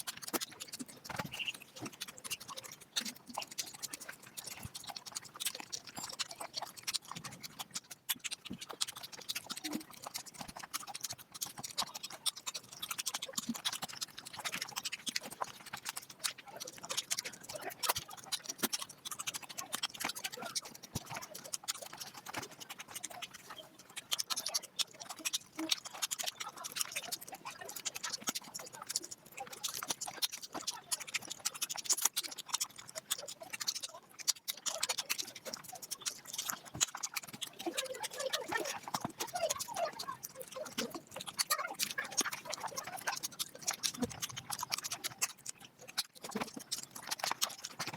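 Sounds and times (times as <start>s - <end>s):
sped-up chewing smacks: 0.0s - 47.9s.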